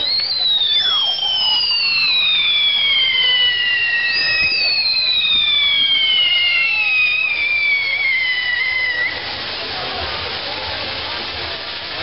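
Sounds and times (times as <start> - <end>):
faint hiss of burning: 0.0 - 12.0
whistling fireworks: 0.0 - 12.0.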